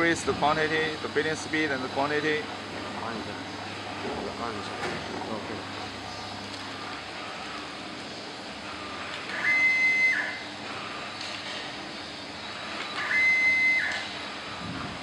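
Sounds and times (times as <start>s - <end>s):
filling machine motor whine: 0.0s - 15.0s.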